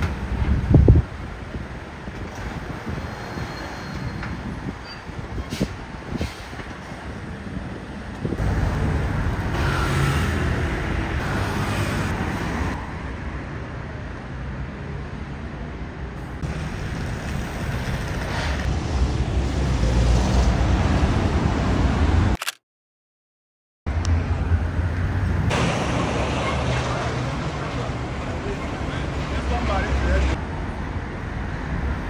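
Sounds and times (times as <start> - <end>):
cars and buses passing: 0.0 - 22.4, 23.9 - 32.0.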